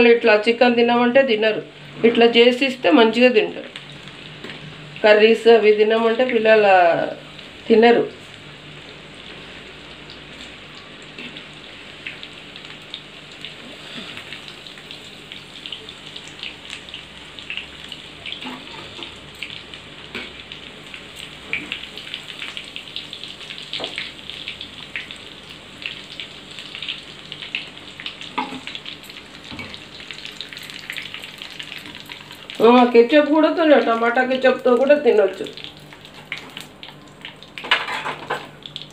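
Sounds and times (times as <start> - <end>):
food sizzling in hot oil: 1.6 - 38.9.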